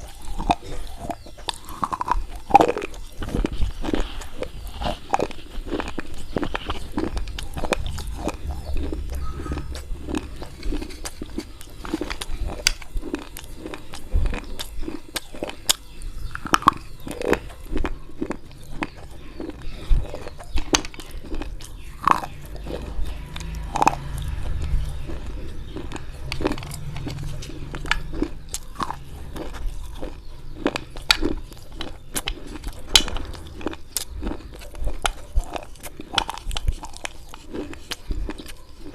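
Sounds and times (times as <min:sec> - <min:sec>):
chewing crunches: 0:00.0 - 0:38.9.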